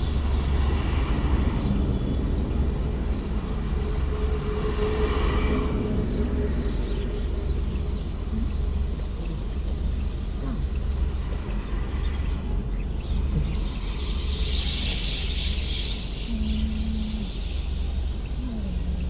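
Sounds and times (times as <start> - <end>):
flock of birds chattering: 0.0 - 19.0
highway traffic rumble: 0.0 - 19.0.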